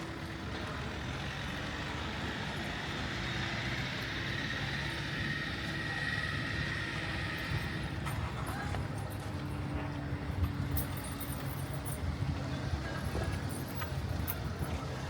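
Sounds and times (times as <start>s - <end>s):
motor vehicle running: 0.0s - 15.0s
outdoor street noise: 0.0s - 15.0s.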